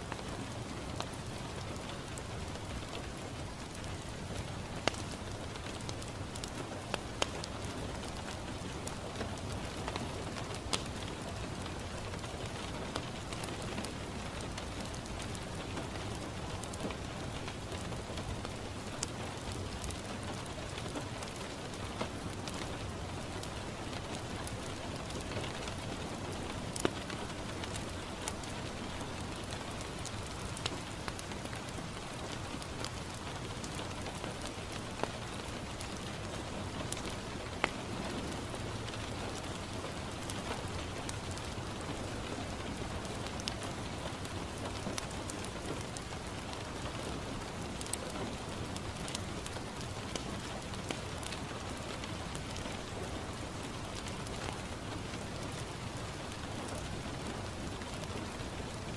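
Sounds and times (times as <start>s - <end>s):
rain on a window pane: 0.0s - 58.9s
wood fire popping and crackling: 0.0s - 58.9s.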